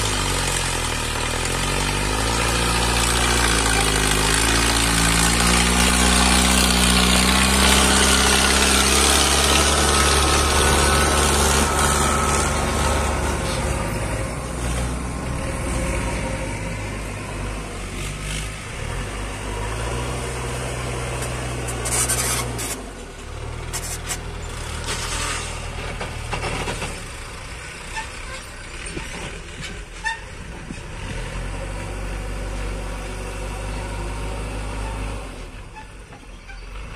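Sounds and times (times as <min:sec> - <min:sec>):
backhoe loader diesel engine: 0:00.0 - 0:36.9
tractor diesel engine: 0:00.0 - 0:36.9.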